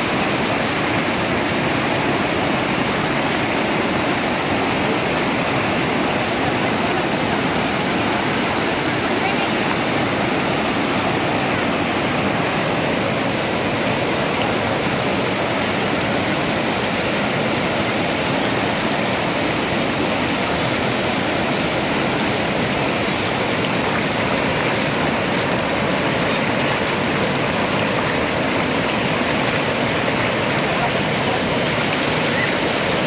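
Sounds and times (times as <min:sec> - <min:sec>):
river rushing through rapids: 0:00.0 - 0:33.0.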